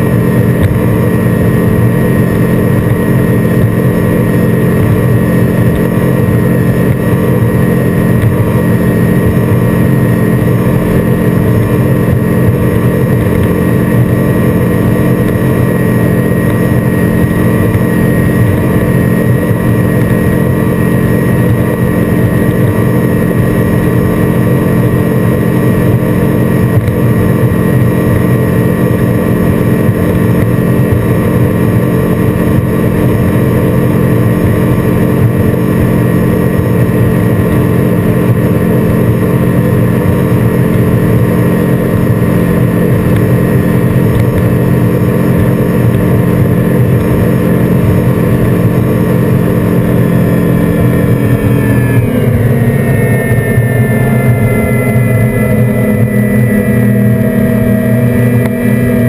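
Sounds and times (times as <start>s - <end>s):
outboard engine at high speed: 0.0s - 59.0s
water rushing along hull: 0.0s - 59.0s.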